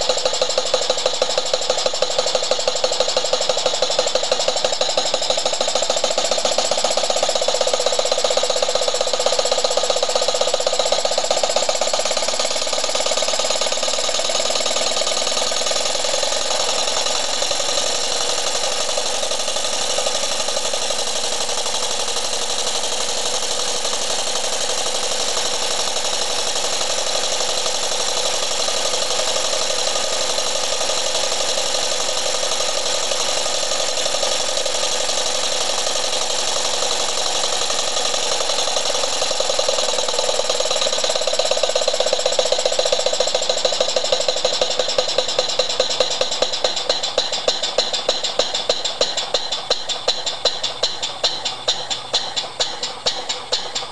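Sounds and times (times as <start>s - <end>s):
model steam engine exhaust beats: 0.0s - 53.9s.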